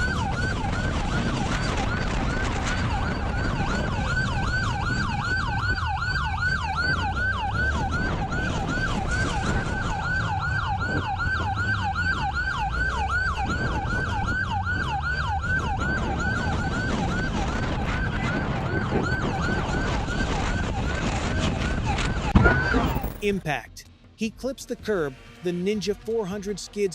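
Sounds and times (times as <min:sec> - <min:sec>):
police siren yelping: 0:00.0 - 0:23.2
road and engine noise: 0:00.0 - 0:26.9.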